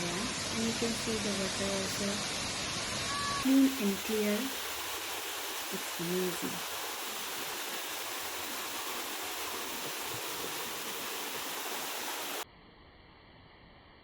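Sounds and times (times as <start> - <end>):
waterfall rushing: 0.0 - 12.4
faint hiss: 0.0 - 14.0.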